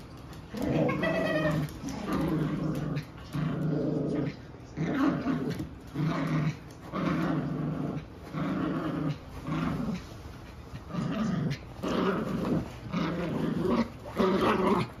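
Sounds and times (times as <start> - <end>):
puppies play-growling: 0.0 - 15.0.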